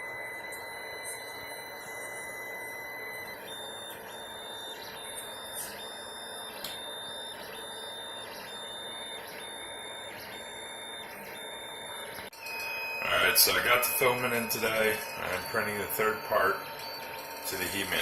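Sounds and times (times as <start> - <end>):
fans humming: 0.0 - 18.0
stepper motors whining: 0.0 - 18.0.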